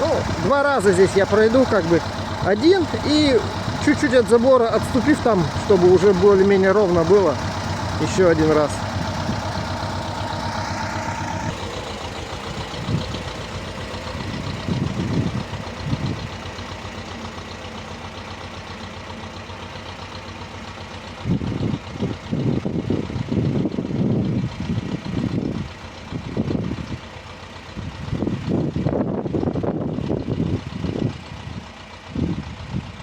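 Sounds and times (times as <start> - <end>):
rotary tiller engine running: 0.0 - 32.7.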